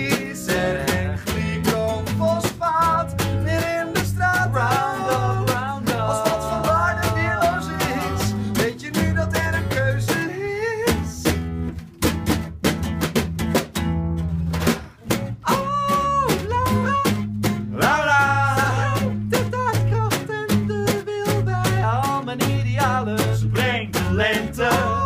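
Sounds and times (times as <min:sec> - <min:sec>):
man singing: 0:00.0 - 0:11.4, 0:15.4 - 0:25.0
acoustic guitars strumming: 0:00.0 - 0:25.0
bass line: 0:00.0 - 0:25.0.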